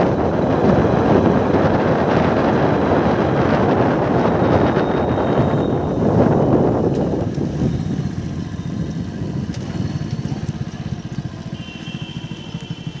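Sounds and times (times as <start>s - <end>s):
wind rush on microphone: 0.0s - 11.3s
vehicle engine pulsing: 0.0s - 13.0s.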